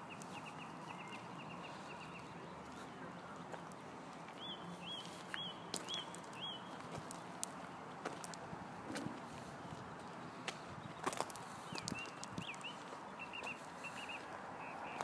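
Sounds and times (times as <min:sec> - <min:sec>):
small birds chirping: 0:00.0 - 0:08.4, 0:09.2 - 0:15.0.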